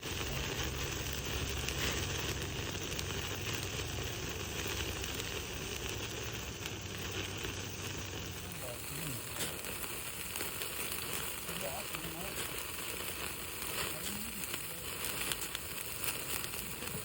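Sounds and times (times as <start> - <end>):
meat sizzling on a grill: 0.0 - 17.0
wood fire crackling: 0.0 - 17.0.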